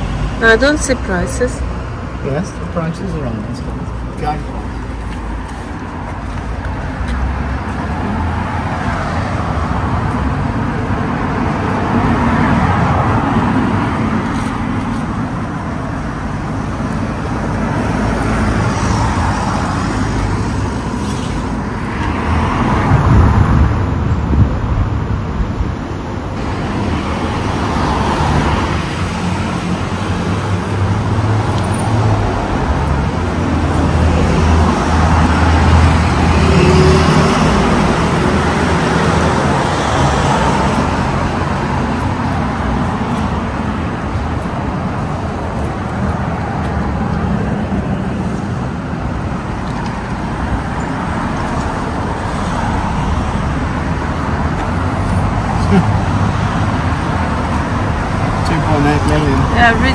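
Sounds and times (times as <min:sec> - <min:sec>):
cars driving past: 0:00.0 - 0:59.9
low rumble of engines: 0:00.0 - 0:59.9.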